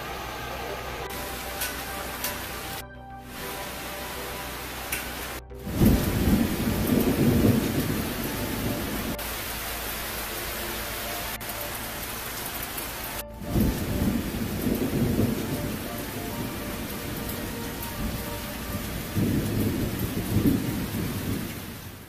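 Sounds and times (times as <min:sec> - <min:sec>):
heavy rain hissing: 0:00.0 - 0:22.0
thunder rumbling: 0:00.0 - 0:22.0.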